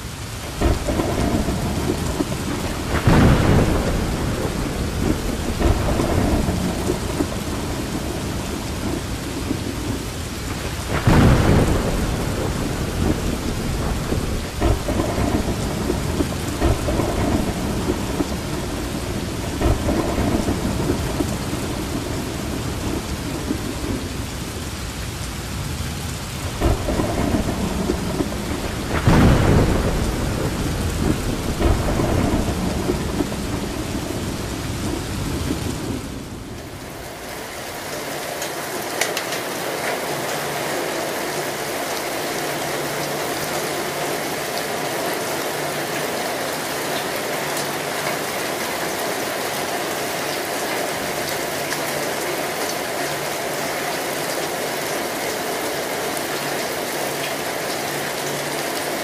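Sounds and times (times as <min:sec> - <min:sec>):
thunder rumbling: 0:00.0 - 0:54.3
steady rain: 0:00.0 - 0:59.0.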